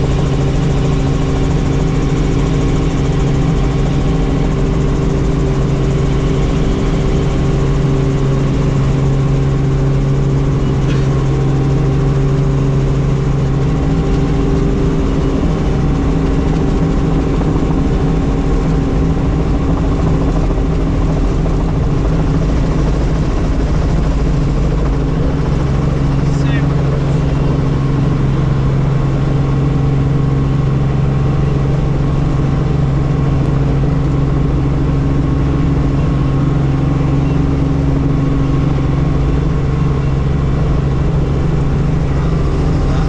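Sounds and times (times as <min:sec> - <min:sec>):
helicopter engine and rotor drone: 0:00.0 - 0:43.0.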